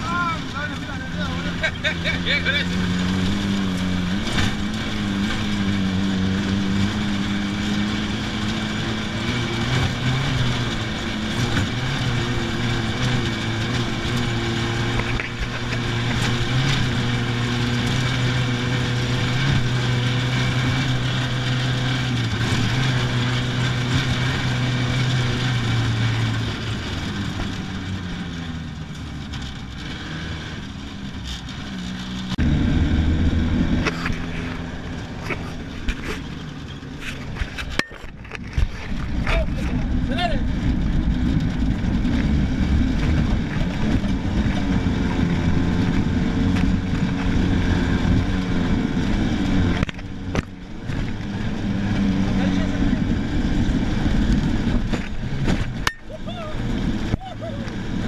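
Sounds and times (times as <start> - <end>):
rally car engine: 0.0 - 58.0
tyre and wind noise: 0.0 - 58.0.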